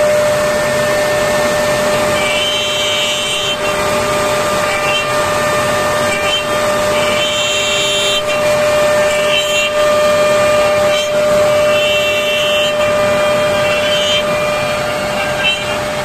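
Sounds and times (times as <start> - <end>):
cutter milling wood: 0.0 - 16.0
machine spindle whining: 0.0 - 16.0.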